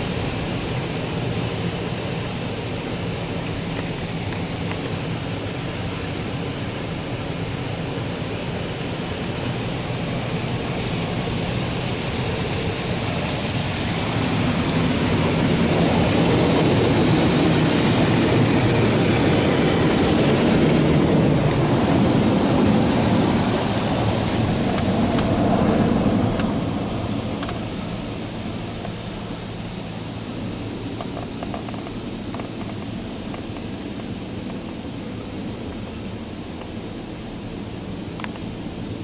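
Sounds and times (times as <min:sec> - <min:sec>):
car wash rushing noise: 0:00.0 - 0:39.0.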